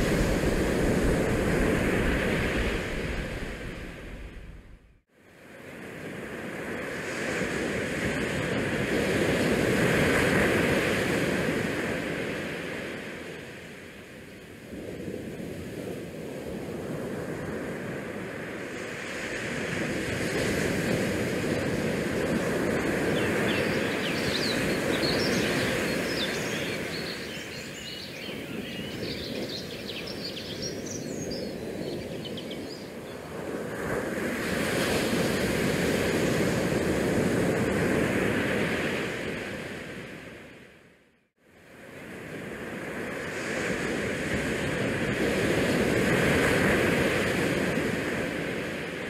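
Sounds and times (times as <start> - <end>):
wind gusting over microphone: 0.0 - 13.6, 14.4 - 40.5, 41.7 - 49.0
sea noise: 0.0 - 49.0.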